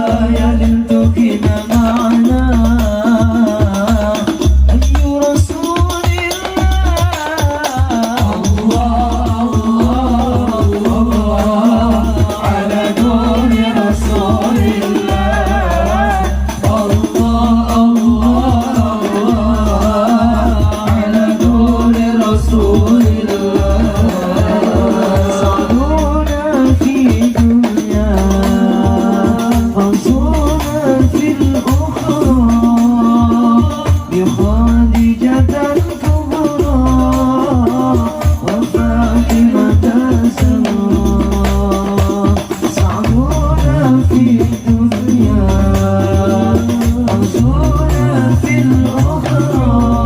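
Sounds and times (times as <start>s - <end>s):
frame drums and jingles: 0.0s - 50.0s
man singing devotional song: 0.0s - 50.0s.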